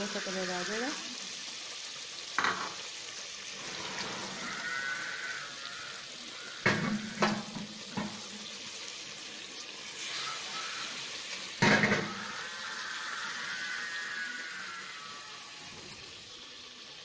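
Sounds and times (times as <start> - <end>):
meat sizzling in a pot: 0.0 - 17.0.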